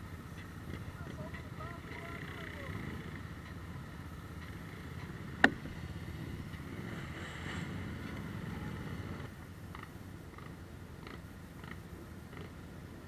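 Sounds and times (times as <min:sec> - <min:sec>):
atv engines running: 0:00.0 - 0:13.0
quads churning through muddy water: 0:00.0 - 0:13.0.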